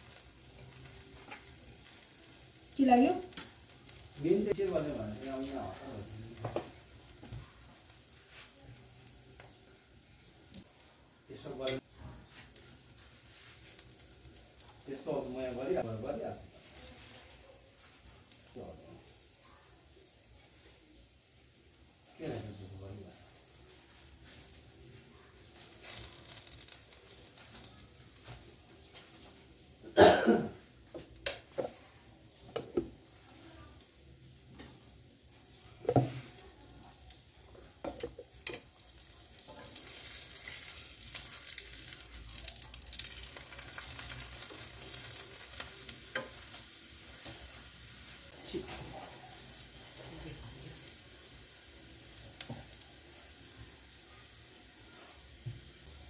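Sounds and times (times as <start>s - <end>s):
flatbread sizzling on griddle: 0.0s - 56.0s.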